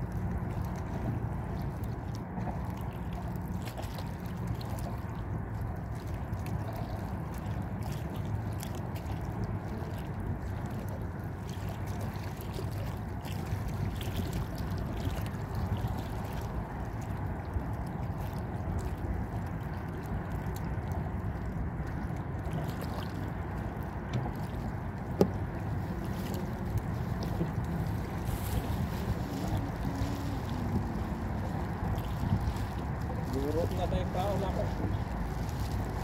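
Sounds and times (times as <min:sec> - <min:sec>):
light water splashes: 0:00.0 - 0:36.0
steady low rumble: 0:00.0 - 0:36.0
waves lapping against boat hull: 0:00.0 - 0:36.0.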